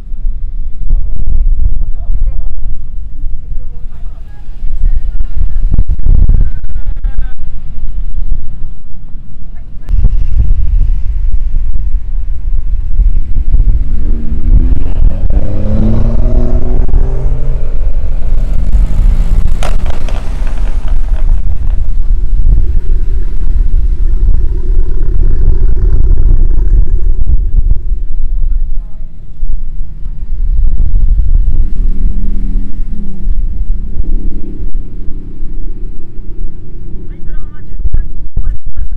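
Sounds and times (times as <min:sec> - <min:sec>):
car engines at low revs: 0:00.0 - 0:38.9
low wind rumble on microphone: 0:00.0 - 0:38.9
steady engine hum: 0:00.0 - 0:38.9.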